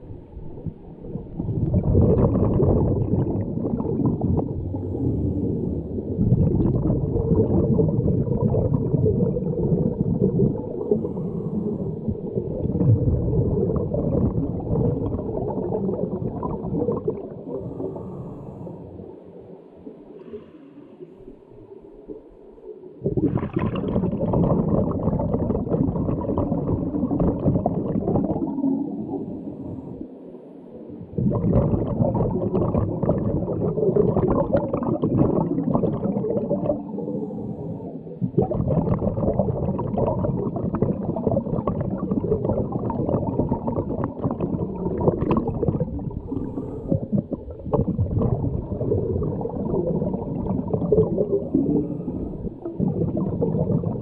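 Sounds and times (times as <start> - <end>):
underwater regulator bubbles gurgling: 0.0 - 54.0.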